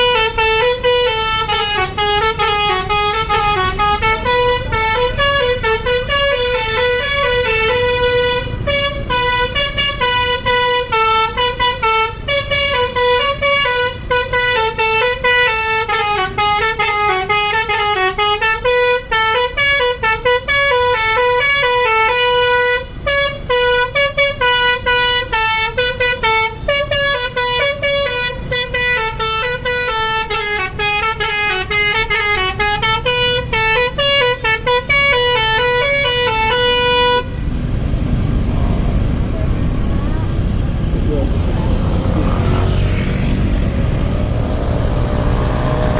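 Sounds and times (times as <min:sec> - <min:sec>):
bus horn playing a melody: 0:00.0 - 0:37.6.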